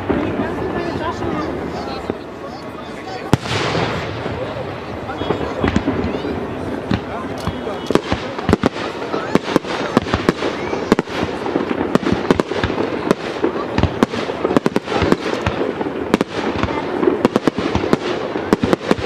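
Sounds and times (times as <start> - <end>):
dense continuous noise: 0.0 - 19.0.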